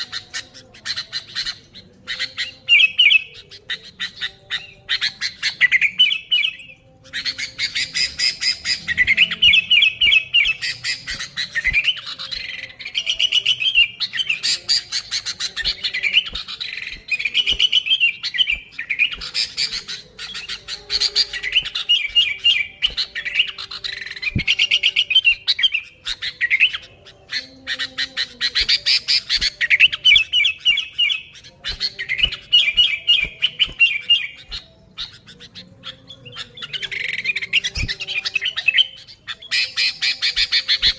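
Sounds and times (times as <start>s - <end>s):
bird singing chattering phrases: 0.0s - 40.9s.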